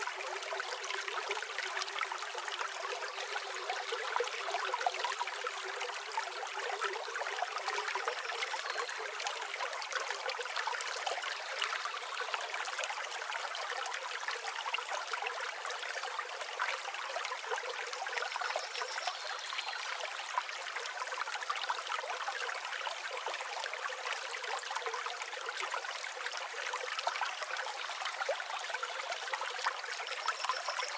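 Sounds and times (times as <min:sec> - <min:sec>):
water trickling and splashing: 0:00.0 - 0:30.9.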